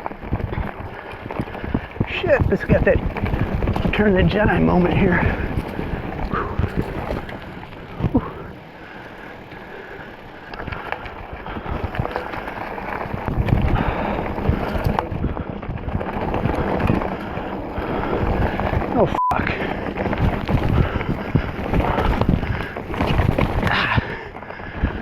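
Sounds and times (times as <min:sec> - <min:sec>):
mountain bike rattling on trail: 0:00.0 - 0:25.0
wind rushing over microphone: 0:00.0 - 0:25.0.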